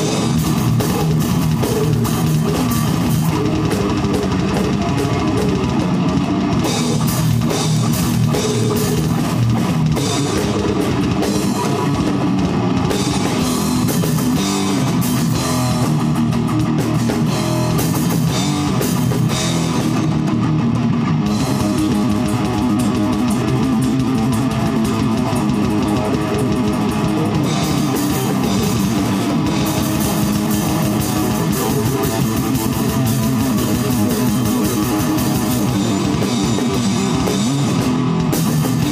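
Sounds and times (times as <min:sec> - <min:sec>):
distorted electric guitars: 0:00.0 - 0:38.9
fast drumming on drum kit: 0:00.0 - 0:38.9.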